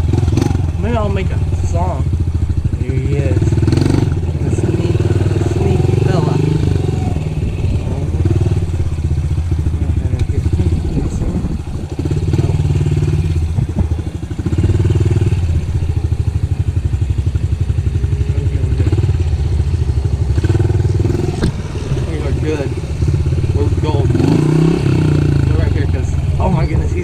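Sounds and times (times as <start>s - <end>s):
small off-road engine running: 0.0s - 27.0s.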